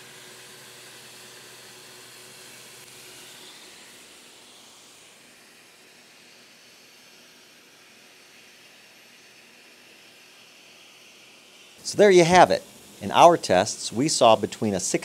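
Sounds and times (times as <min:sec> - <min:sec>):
sandblast nozzle hissing: 0:00.0 - 0:15.0.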